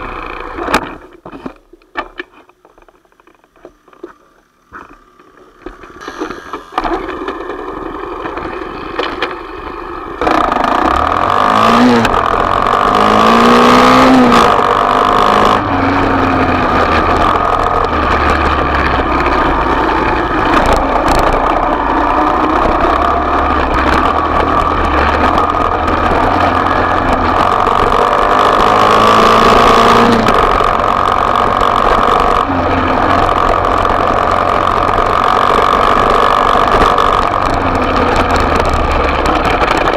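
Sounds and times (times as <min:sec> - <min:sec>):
motorbike engine revving: 0:05.7 - 0:39.9.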